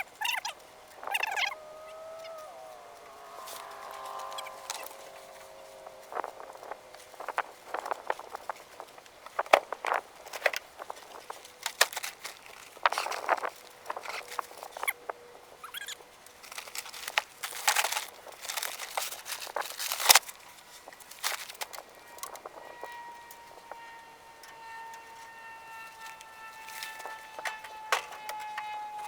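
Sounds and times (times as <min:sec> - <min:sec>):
rustling and scraping of handling: 0:00.0 - 0:29.0.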